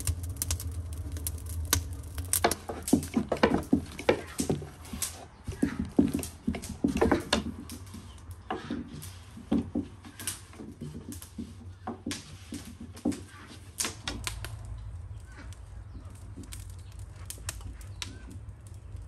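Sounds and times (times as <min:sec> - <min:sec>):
wood fire rumbling: 0:00.0 - 0:19.0.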